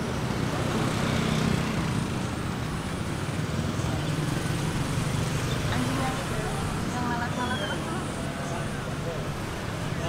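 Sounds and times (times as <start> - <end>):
outdoor street noise: 0.0 - 10.0
road traffic rumble: 0.0 - 10.0.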